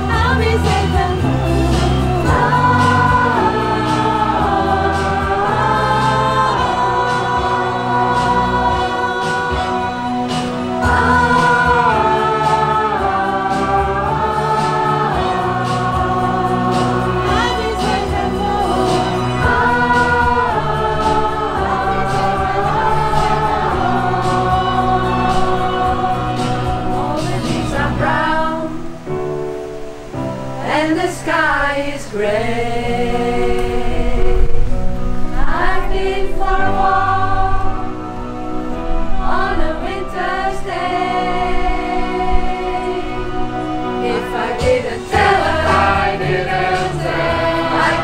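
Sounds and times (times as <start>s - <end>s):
choir singing in harmony: 0.0s - 48.0s.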